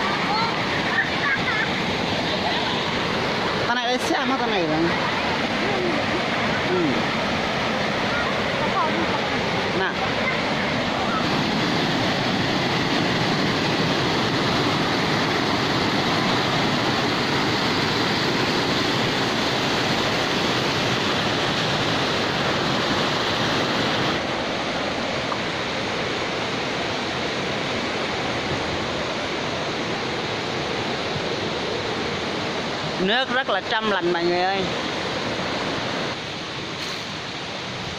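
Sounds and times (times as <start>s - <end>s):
stream water rushing over boulders: 0.0s - 37.9s.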